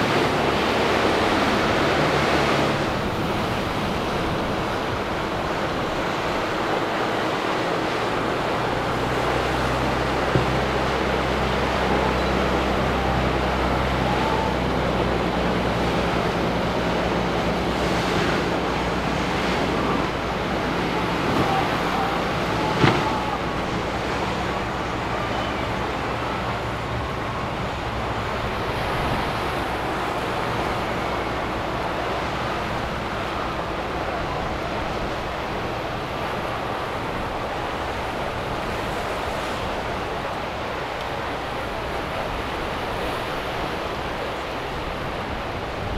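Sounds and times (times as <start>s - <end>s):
boat engines running: 0.0s - 45.9s
surf: 0.0s - 45.9s.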